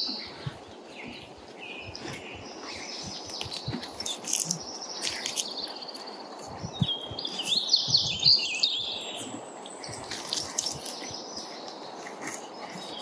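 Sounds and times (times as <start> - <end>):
songbirds trilling: 0.0 - 13.0.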